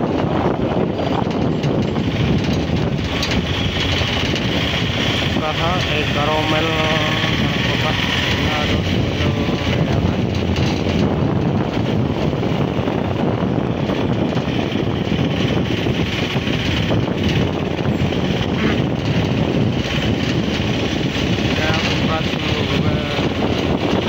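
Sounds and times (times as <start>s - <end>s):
road and engine noise inside vehicle: 0.0s - 24.0s.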